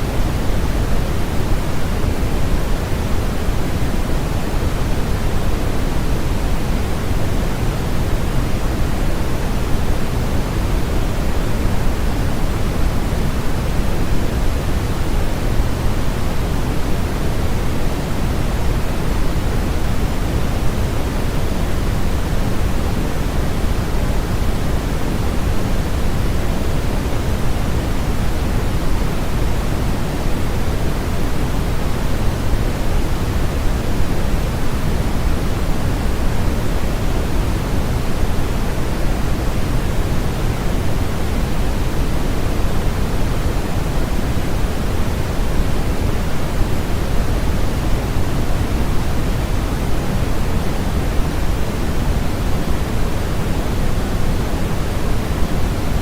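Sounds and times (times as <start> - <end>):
low white noise hiss: 0.0 - 56.0.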